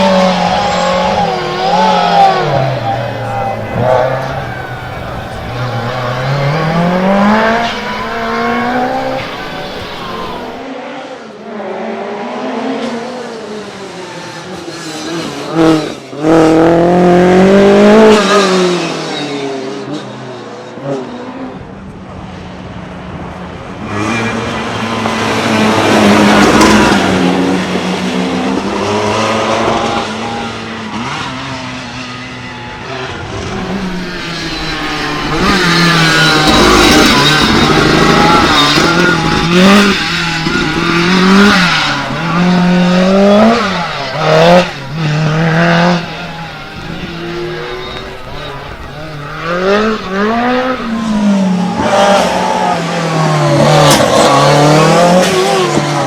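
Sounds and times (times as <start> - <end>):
rally car engine revving: 0.0 - 10.6, 11.6 - 21.6, 23.8 - 56.0.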